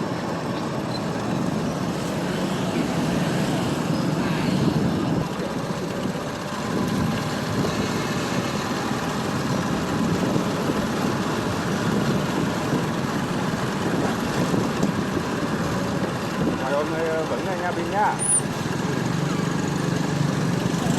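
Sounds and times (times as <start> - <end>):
road noise: 0.0 - 20.9
motorbike engine running: 0.3 - 20.9.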